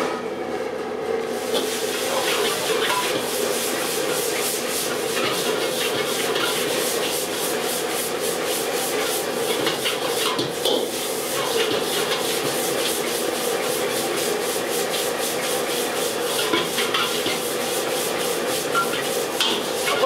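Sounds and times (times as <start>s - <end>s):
gas burner rushing: 0.0s - 20.0s
ladle scraping wok: 1.3s - 20.0s.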